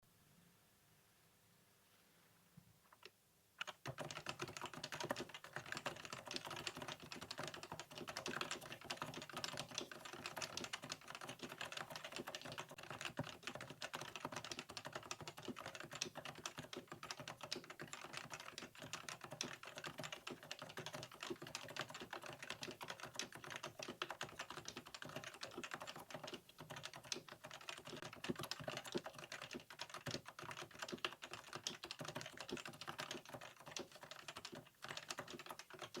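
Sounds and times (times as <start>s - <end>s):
fast keyboard typing: 3.6s - 36.0s.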